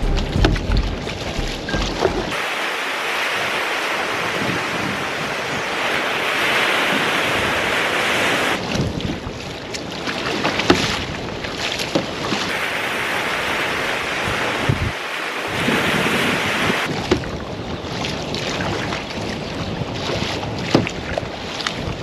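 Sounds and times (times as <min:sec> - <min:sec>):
wind buffeting microphone: 0:00.0 - 0:02.4, 0:03.4 - 0:22.0
paddle splashes on water: 0:00.0 - 0:22.0
small waves washing up beach: 0:00.0 - 0:22.0.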